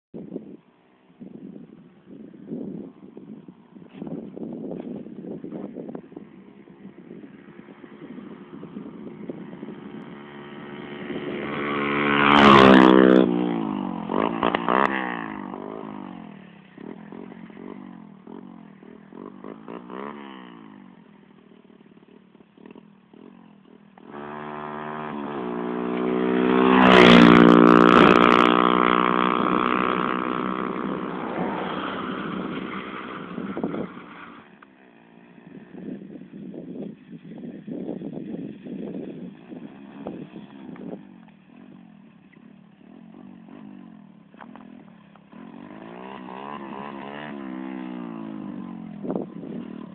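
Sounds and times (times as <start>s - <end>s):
dirt bike engine revving past: 5.6s - 36.3s, 36.9s - 49.9s.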